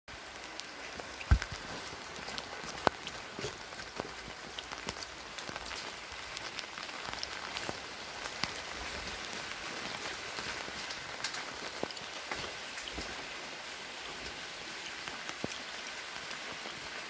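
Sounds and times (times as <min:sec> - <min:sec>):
raindrops ticking close by: 0:00.1 - 0:17.0
steady rain hiss: 0:00.1 - 0:17.0.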